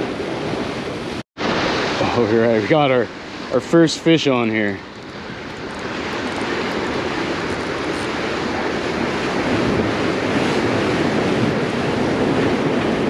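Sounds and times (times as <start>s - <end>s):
wind buffeting microphone: 0.0s - 13.0s
surf breaking over rocks: 1.4s - 13.0s.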